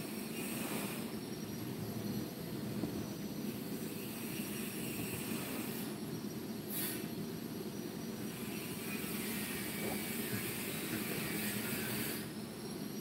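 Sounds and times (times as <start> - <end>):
hiss: 0.0 - 13.0.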